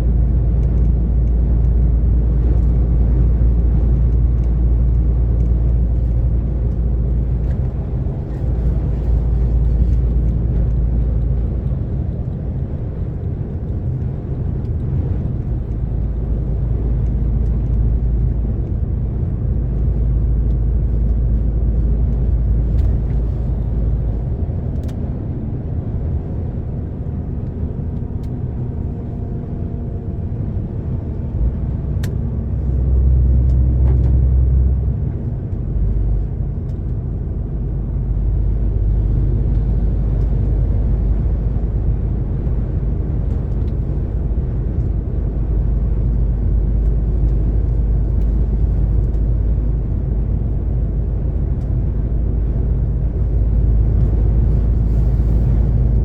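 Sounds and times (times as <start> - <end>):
truck diesel engine rumble: 0.0 - 56.0.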